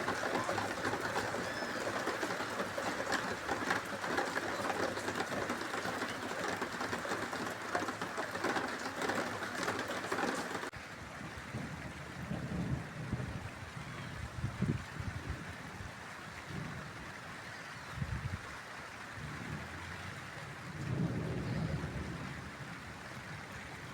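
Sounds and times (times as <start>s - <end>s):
low rush of running water: 0.0s - 23.9s
steady rain falling: 0.0s - 23.9s.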